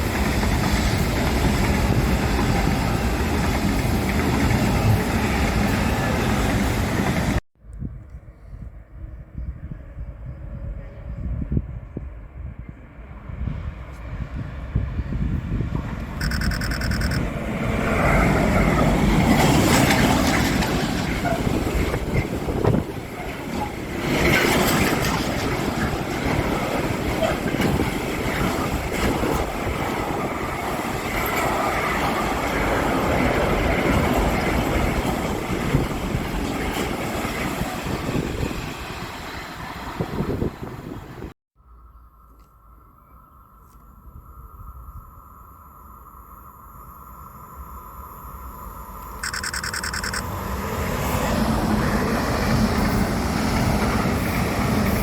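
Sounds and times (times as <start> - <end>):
train passing at speed: 0.0 - 7.4, 8.9 - 41.4, 44.2 - 55.0.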